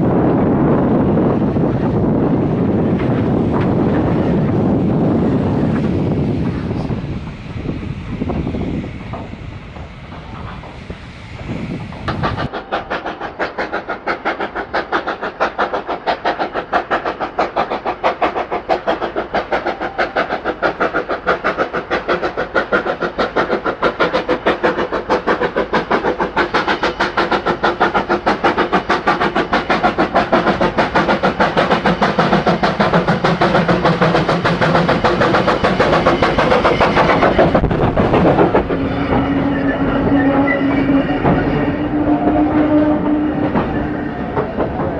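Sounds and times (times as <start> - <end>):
steam locomotive exhaust beats: 0.0 - 44.9.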